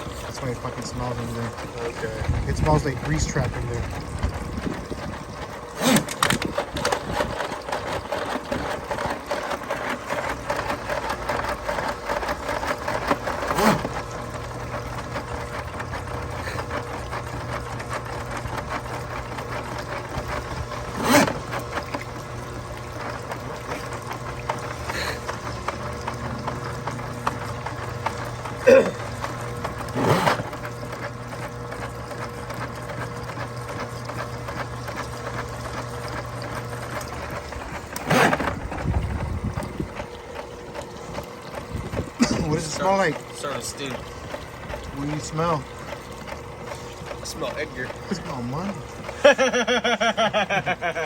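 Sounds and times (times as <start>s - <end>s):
cable rattling: 0.0s - 49.3s
drain-cleaning machine humming: 0.0s - 51.0s.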